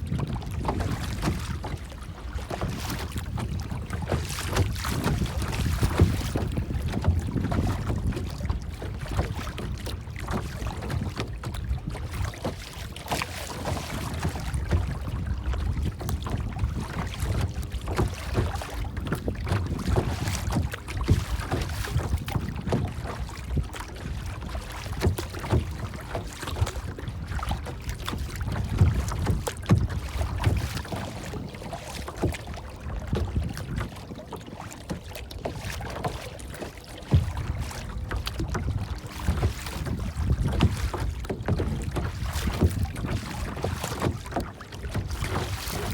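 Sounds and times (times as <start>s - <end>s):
water lapping and splashing: 0.0s - 45.9s.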